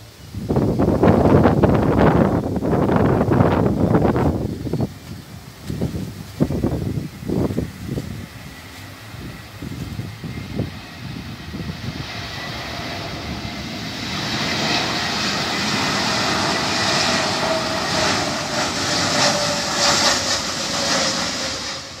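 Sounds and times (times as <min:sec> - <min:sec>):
jet airliner passing overhead: 0:00.0 - 0:22.0
jet engine whine: 0:00.0 - 0:22.0.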